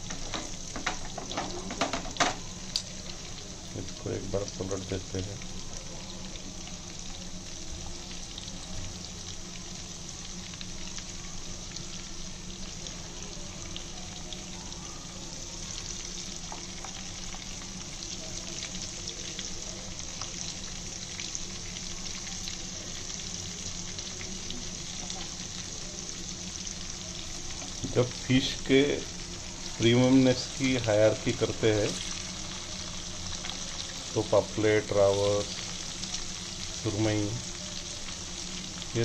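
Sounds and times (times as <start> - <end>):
fish frying in oil: 0.0 - 39.0.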